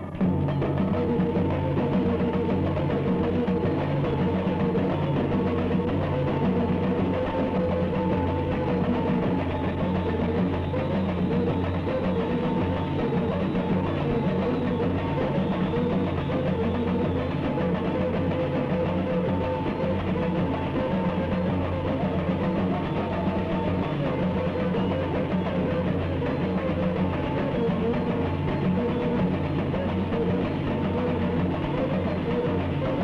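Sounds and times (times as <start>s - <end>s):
music with drums and percussion: 0.0s - 33.0s.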